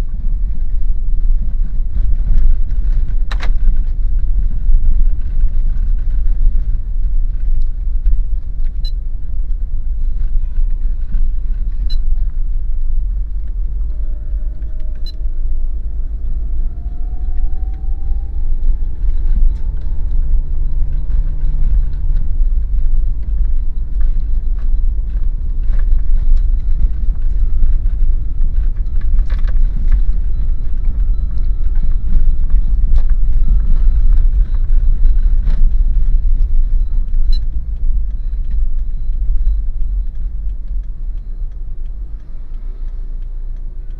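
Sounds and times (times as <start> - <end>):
car engine and road rumble: 0.0 - 43.9
faint rising whine: 0.0 - 43.9.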